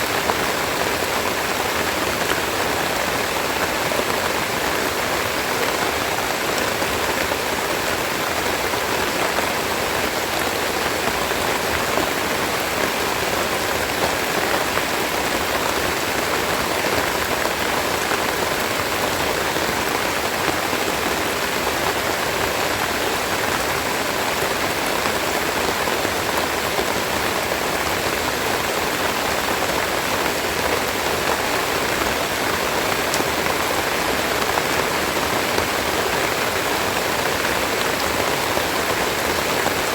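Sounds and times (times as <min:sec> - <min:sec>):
heavy rain pattering on leaves: 0:00.0 - 0:39.9.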